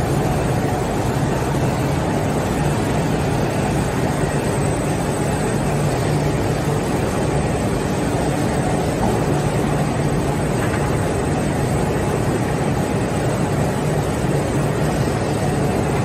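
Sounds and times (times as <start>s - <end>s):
low constant hum: 0.0s - 16.0s
production line machinery running: 0.0s - 16.0s.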